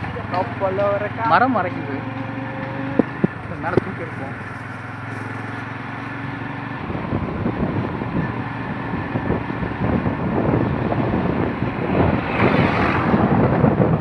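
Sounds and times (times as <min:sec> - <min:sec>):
crane passing: 0:00.0 - 0:12.2
wind buffeting microphone: 0:02.6 - 0:14.0.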